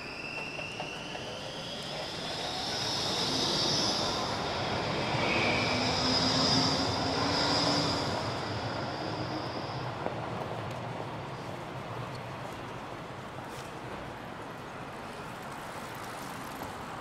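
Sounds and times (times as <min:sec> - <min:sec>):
tram passing: 0:00.0 - 0:17.0.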